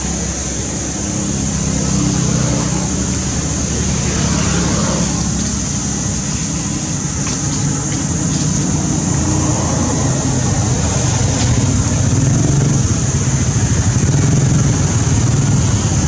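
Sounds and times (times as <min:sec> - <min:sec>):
high-pitched hiss: 0:00.0 - 0:16.0
motor traffic rumble: 0:00.0 - 0:16.0.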